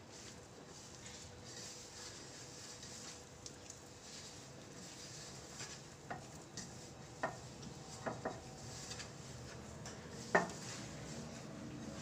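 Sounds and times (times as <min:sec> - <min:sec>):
dough rubbing on steel bowl: 0:00.0 - 0:12.0.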